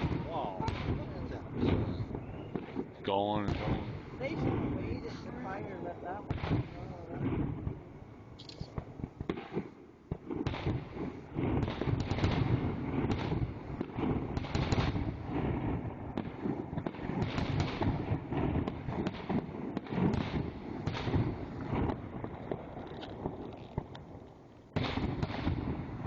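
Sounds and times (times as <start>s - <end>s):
fireworks reports and crackles: 0.0s - 26.0s.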